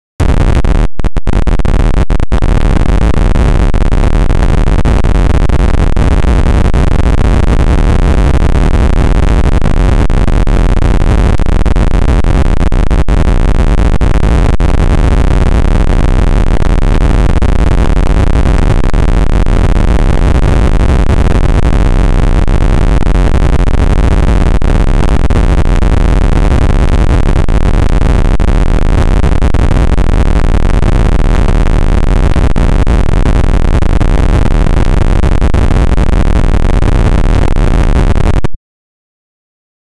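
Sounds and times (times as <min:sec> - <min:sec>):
harsh distorted noise: 0:00.2 - 0:38.6.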